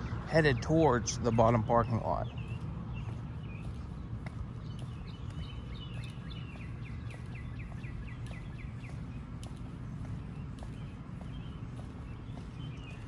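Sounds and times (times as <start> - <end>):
bird singing: 0.0 - 13.0
footsteps on concrete: 0.0 - 13.0.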